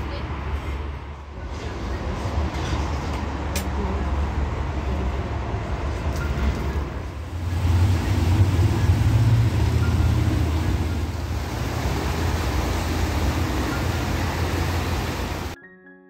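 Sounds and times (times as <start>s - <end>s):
passing cars rumble: 0.0s - 15.6s.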